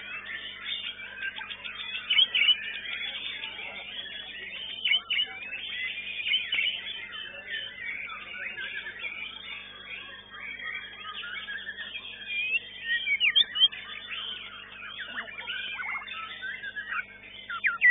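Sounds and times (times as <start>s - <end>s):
sharp loud bird notes: 0.0s - 17.9s
songbirds singing: 0.0s - 17.9s.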